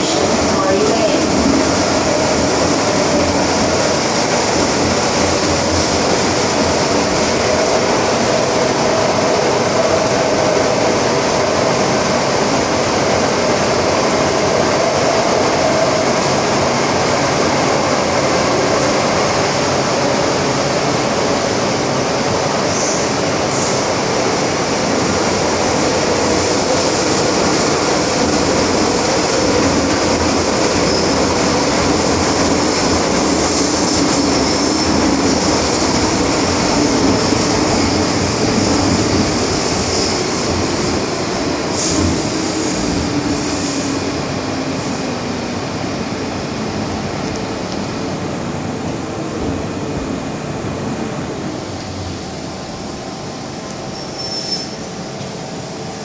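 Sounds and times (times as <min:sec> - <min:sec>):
train rushing through tunnel: 0:00.0 - 0:56.0.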